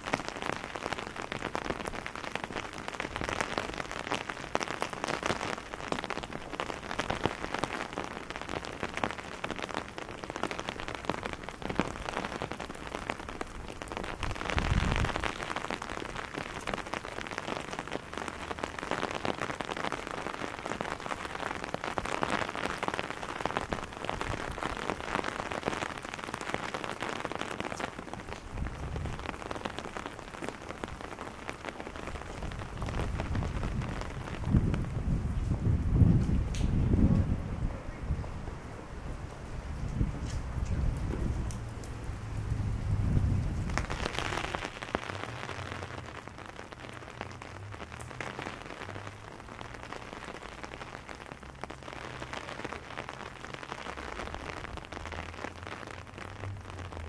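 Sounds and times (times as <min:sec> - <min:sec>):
rain on cobblestones: 0:00.0 - 0:57.0.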